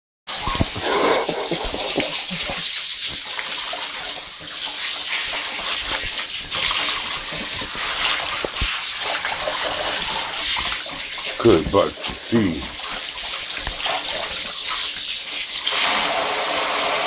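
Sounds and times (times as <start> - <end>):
shower water spraying: 0.3 - 17.0
knocks and splashes: 0.4 - 15.2.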